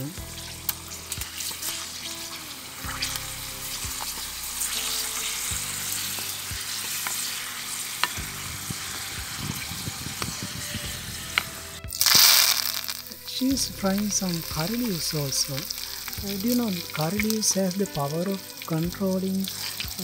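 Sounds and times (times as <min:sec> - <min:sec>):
ladle scraping and knocking wok: 0:00.0 - 0:20.0
papadam sizzling in hot oil: 0:00.0 - 0:20.0.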